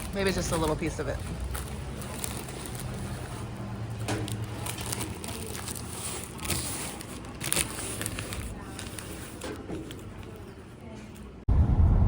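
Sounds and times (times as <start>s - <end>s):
paper wrapping crinkling: 0.0s - 10.7s.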